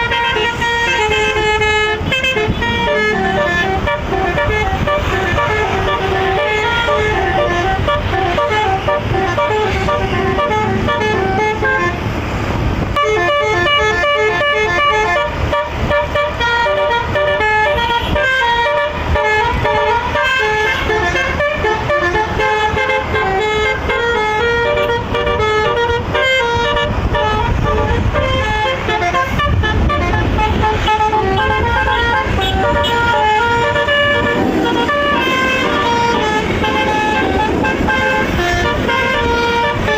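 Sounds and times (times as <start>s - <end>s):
bus engine rumble: 0.0s - 39.9s
bus melodic horn: 0.0s - 39.9s.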